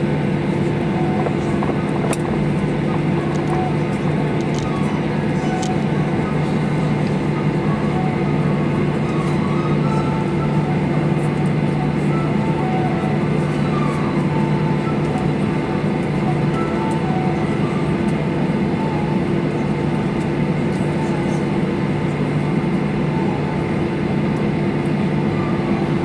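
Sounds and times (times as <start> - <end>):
jet engines idling: 0.0 - 26.0.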